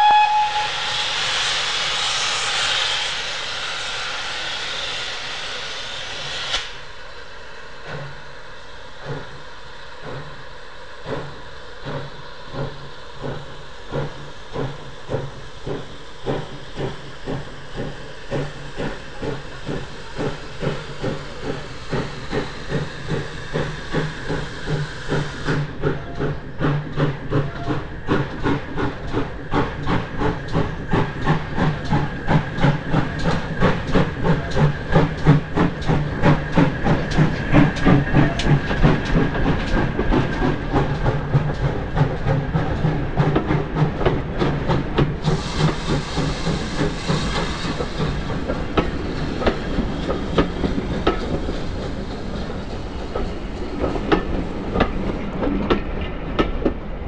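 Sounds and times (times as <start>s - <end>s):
steam hiss: 0.0s - 55.8s
steam locomotive chuffing: 0.0s - 57.0s.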